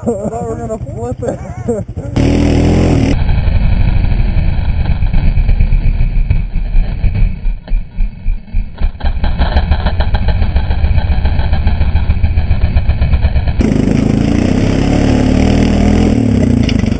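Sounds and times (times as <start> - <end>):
atv engine running: 0.0 - 16.9.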